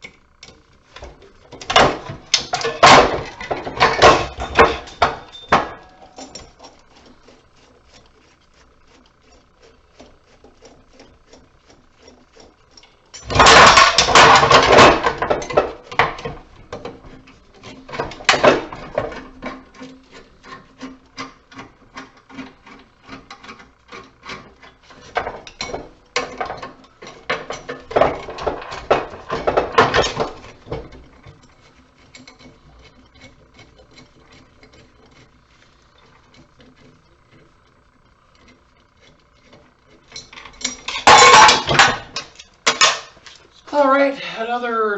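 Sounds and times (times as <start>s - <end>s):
metal parts scraping and clattering: 0.0s - 43.8s.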